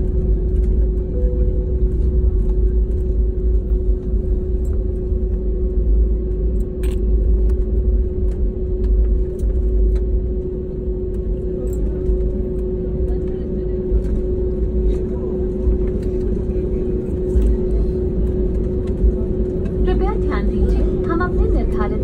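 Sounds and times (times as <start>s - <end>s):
constant cabin hum: 0.0s - 22.0s
deep rumble of engines and wheels: 0.0s - 22.0s.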